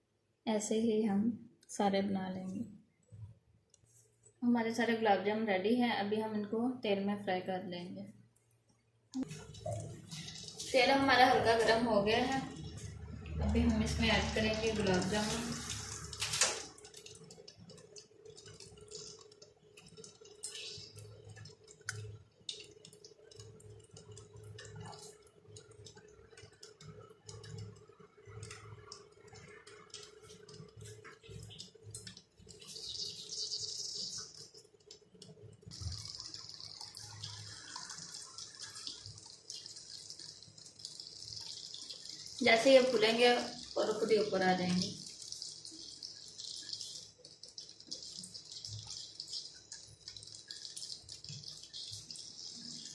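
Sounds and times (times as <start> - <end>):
dough frying in oil: 0.0 - 52.9.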